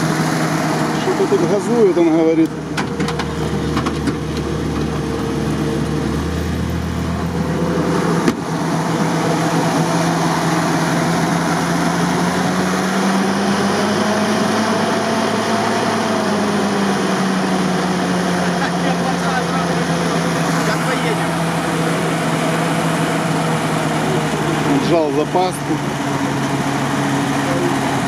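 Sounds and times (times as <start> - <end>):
petrol engine revving at idle: 0.0 - 28.0.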